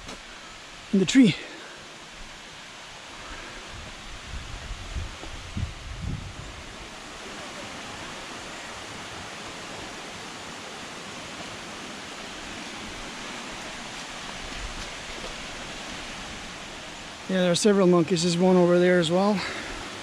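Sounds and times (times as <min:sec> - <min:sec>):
rush of flowing water: 0:00.0 - 0:20.0.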